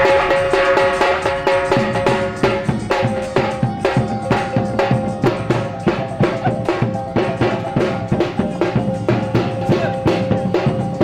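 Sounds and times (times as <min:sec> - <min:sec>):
drums keeping steady beat: 0:00.0 - 0:11.0
gong-chimes struck in patterns: 0:00.0 - 0:11.0.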